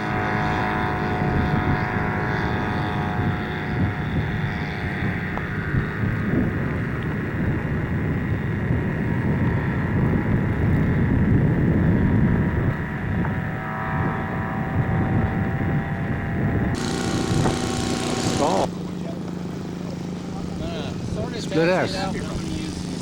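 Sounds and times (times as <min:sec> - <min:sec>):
model airplane engine drone: 0:00.0 - 0:23.0.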